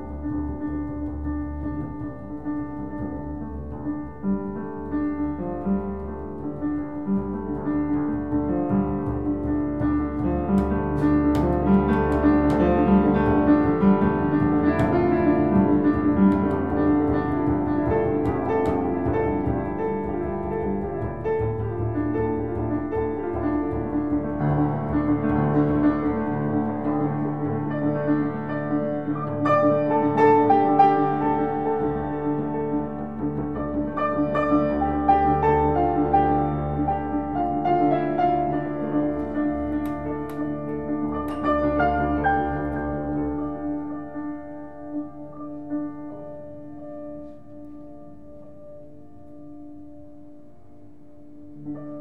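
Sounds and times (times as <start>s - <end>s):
piano notes: 0.0s - 52.0s.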